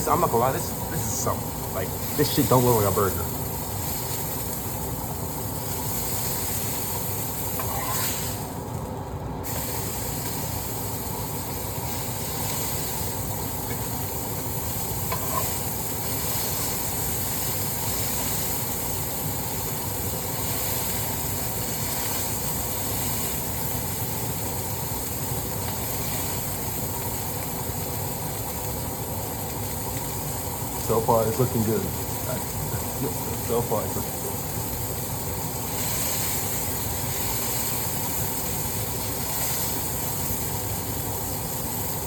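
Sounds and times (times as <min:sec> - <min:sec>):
burger patties sizzling in pan: 0:00.0 - 0:42.0.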